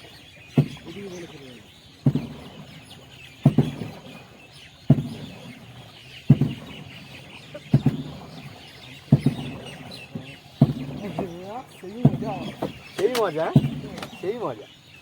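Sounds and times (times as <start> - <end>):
oar knocking against wooden boat: 0.0 - 14.9
small birds chirping: 0.0 - 15.0.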